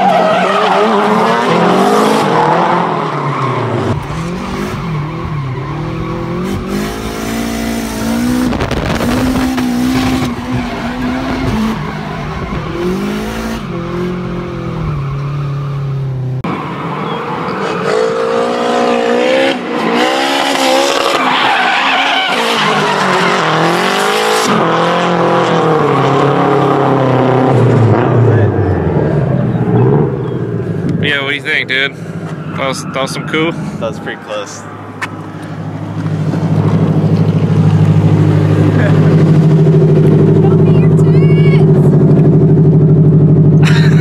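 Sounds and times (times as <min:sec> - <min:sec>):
car engine revving: 0:00.0 - 0:44.0
tyres skidding and squealing: 0:00.0 - 0:44.0.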